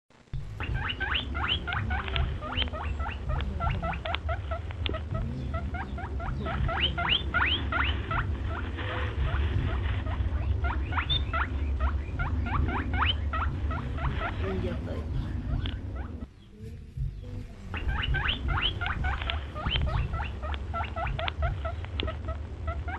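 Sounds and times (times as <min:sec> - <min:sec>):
steady low rumble: 0:00.1 - 0:22.9
baby rabbits squeaking: 0:00.4 - 0:22.9.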